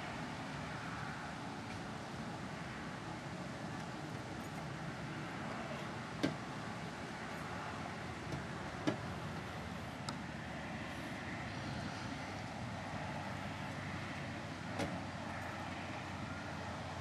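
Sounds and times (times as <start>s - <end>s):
distant city traffic: 0.0s - 17.0s.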